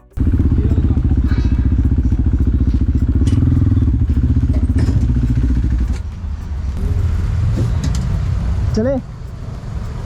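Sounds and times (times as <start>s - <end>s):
motorcycle engine pulsing exhaust: 0.2s - 10.0s.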